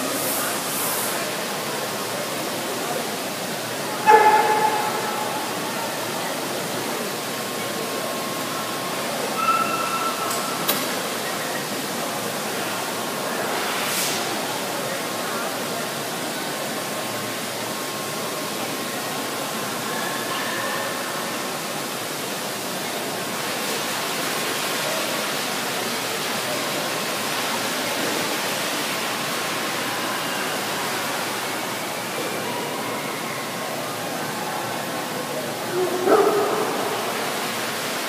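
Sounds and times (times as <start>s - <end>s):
faint crowd voices: 0.0s - 38.0s
indoor hall background rushing: 0.0s - 38.0s.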